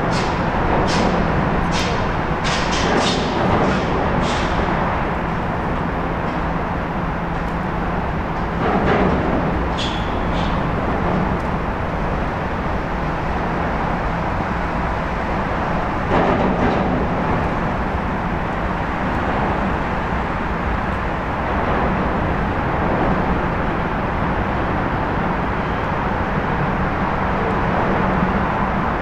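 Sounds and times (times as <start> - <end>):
low rumbling outdoor noise: 0.0 - 29.0.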